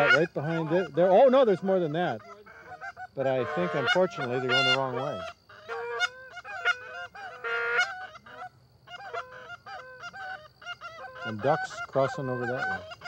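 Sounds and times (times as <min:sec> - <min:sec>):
geese honking and clucking: 0:00.0 - 0:13.0
goose calls blown by hunters: 0:00.0 - 0:13.0.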